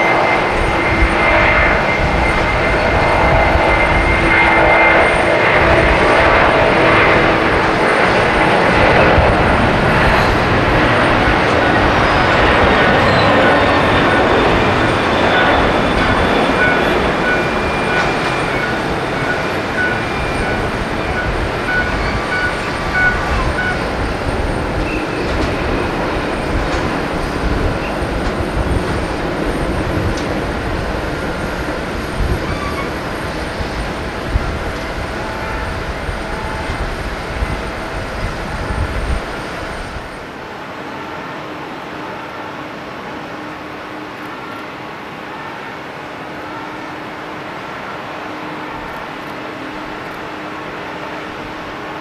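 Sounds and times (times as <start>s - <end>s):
jet engines rumbling and whining: 0.0s - 52.0s.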